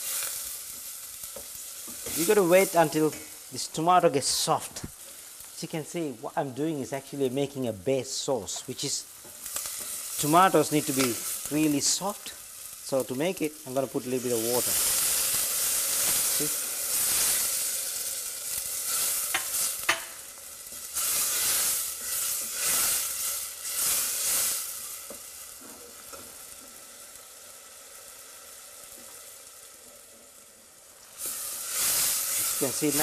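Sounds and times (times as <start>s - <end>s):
curry sauce sizzling in a pan: 0.0s - 5.6s, 8.1s - 33.0s.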